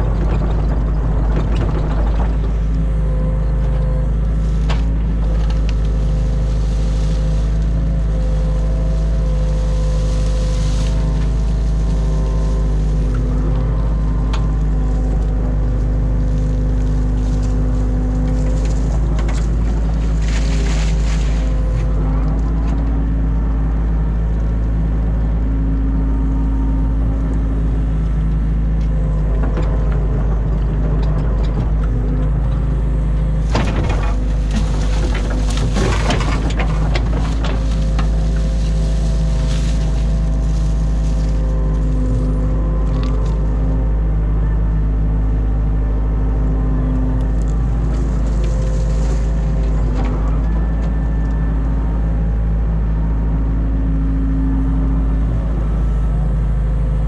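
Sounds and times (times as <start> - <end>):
diesel engine running: 0.0 - 57.0
hydraulic whine: 0.0 - 57.0.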